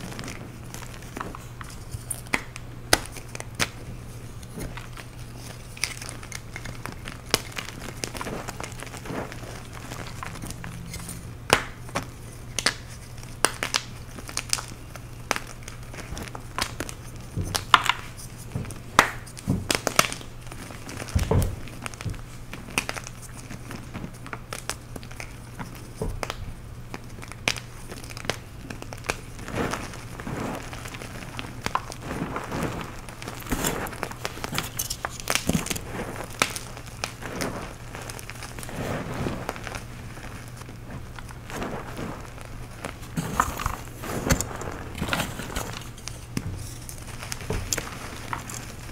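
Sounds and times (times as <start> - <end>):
chalk snapping and crunching: 0.0 - 48.9
gritty squeezing of powder: 0.0 - 48.9.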